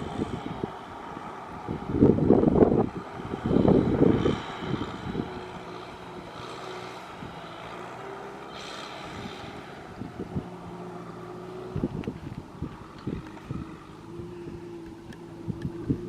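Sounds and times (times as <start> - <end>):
tractor engine under load: 0.0 - 16.0.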